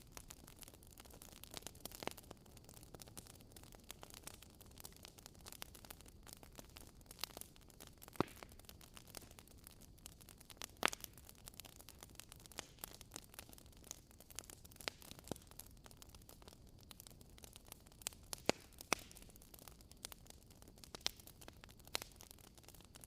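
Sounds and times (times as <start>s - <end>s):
loud fire pops: 0.0s - 23.0s
wood fire crackling: 0.0s - 23.0s.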